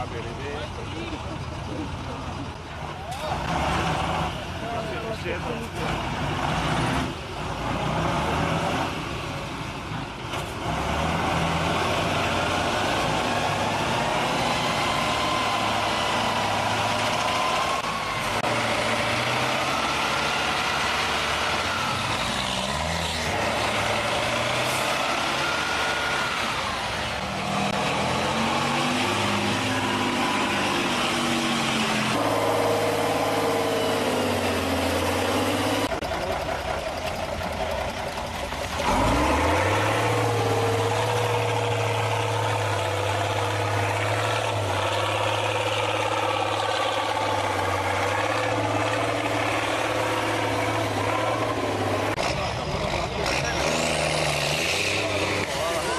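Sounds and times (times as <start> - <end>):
diesel truck engines revving: 0.0 - 55.9.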